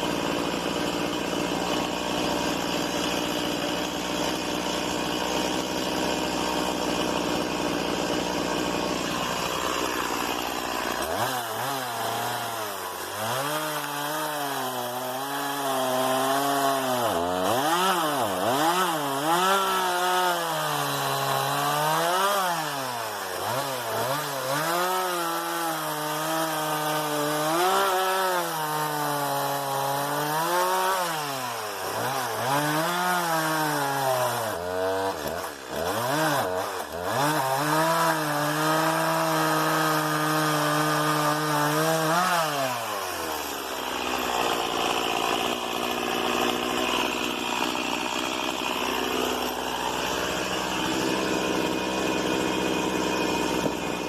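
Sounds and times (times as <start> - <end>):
chainsaw cutting wood: 0.0 - 54.0
chainsaw running: 0.0 - 54.0.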